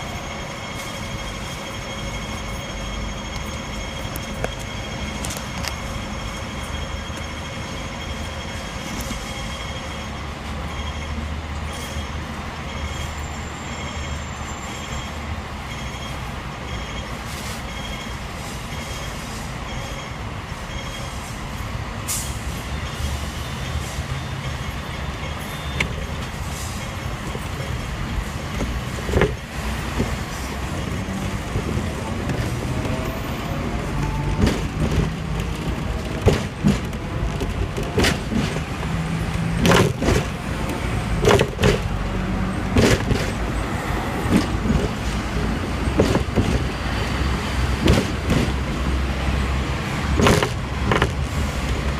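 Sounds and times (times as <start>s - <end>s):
tram wheels rumbling on rail: 0.0s - 51.9s.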